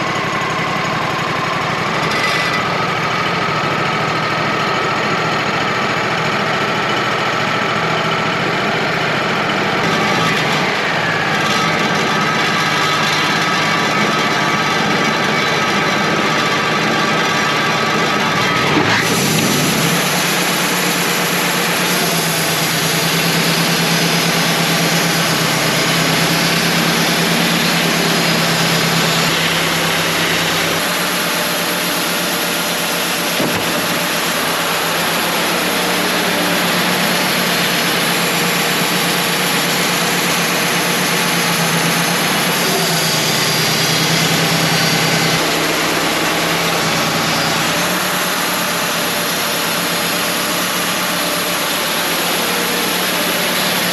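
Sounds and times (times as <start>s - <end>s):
band saw blade sawing log: 0.0s - 3.0s, 9.6s - 53.9s
engine hum: 0.0s - 53.9s.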